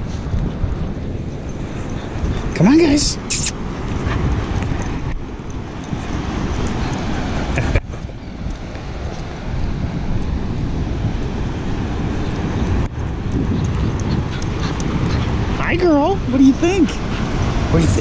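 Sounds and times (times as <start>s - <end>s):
surf washing: 0.0s - 18.0s
wind buffeting microphone: 0.0s - 18.0s.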